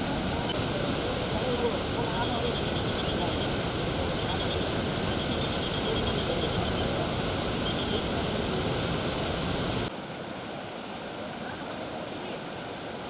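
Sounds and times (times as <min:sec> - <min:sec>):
floodwater rushing: 0:00.0 - 0:11.4.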